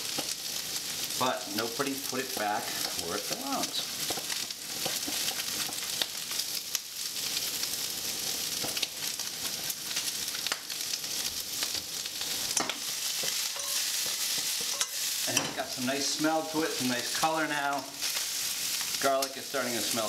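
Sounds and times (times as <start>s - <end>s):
food sizzling in wok: 0.0s - 20.0s.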